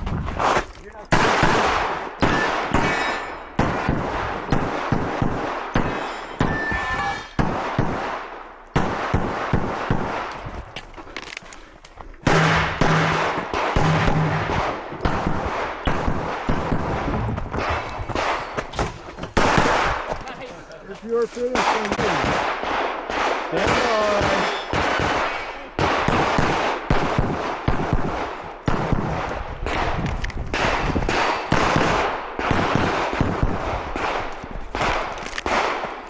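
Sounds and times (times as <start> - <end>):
pistol shots: 0.4 - 10.5, 12.2 - 20.3, 21.4 - 36.0.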